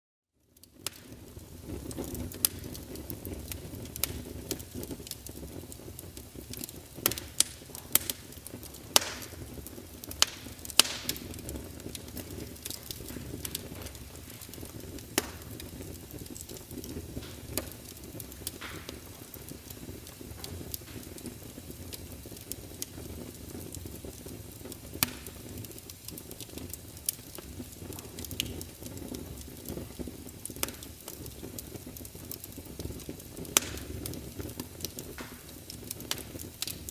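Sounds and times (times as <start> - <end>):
wood fire crackling: 0.4 - 36.9.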